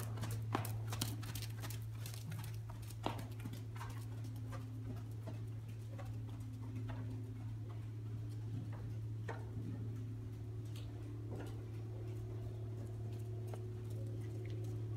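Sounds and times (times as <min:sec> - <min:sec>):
horse hoofbeats trotting: 0:00.0 - 0:14.9
steady low hum: 0:00.0 - 0:14.9.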